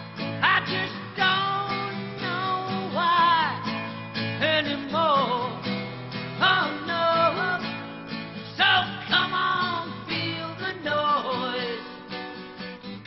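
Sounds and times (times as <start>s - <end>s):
acoustic guitar: 0.0s - 13.0s
man singing: 0.2s - 12.2s.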